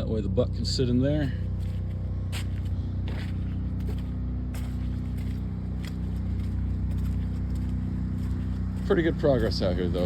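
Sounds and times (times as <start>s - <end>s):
engine humming steadily: 0.0s - 10.0s.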